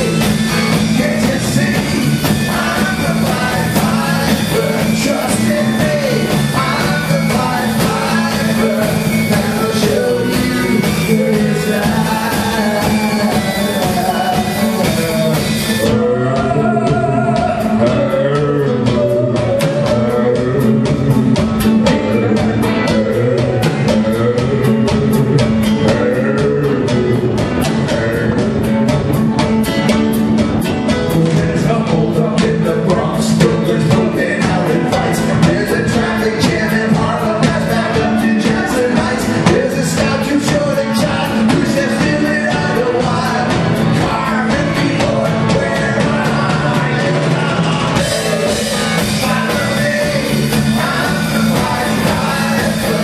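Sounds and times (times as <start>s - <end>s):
person singing into microphone: 0.0s - 29.2s, 30.8s - 53.0s
bass guitar: 0.0s - 53.0s
drum kit beat: 0.0s - 53.0s
guitar: 0.0s - 53.0s.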